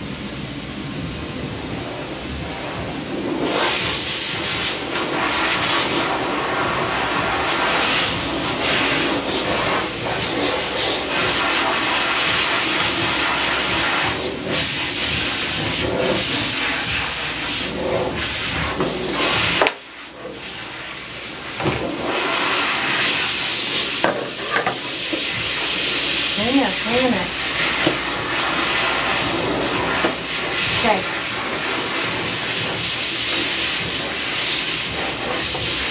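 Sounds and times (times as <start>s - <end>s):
hissing rush of air: 0.0s - 35.9s.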